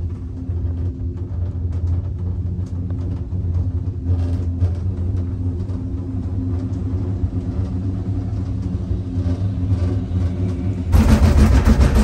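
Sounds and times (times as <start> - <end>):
gondola cabin hum and rumble: 0.0 - 12.0.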